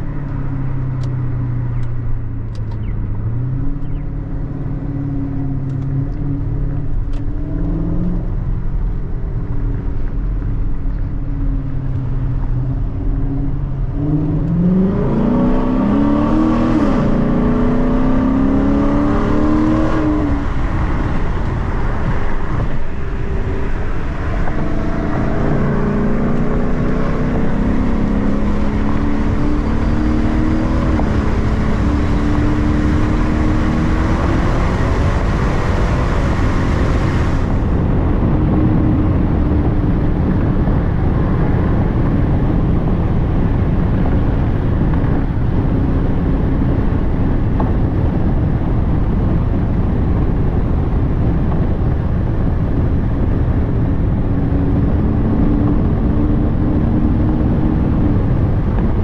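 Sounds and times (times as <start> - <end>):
car engine: 0.0 - 59.0
road and wind noise: 0.0 - 59.0.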